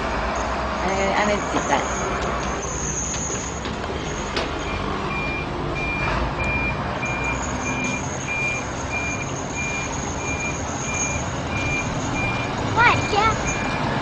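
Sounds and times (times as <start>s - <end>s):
street noise: 0.0s - 14.0s
truck reversing alarm beeping: 0.0s - 14.0s.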